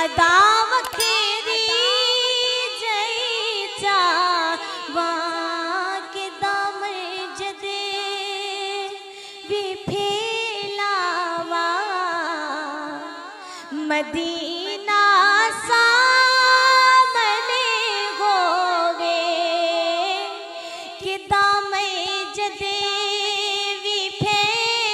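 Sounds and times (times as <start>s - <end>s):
woman singing: 0.0s - 24.9s.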